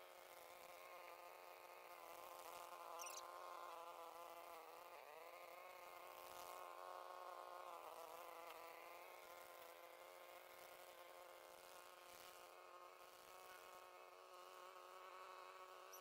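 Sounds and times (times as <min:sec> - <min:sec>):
fly buzzing: 0:00.0 - 0:16.0.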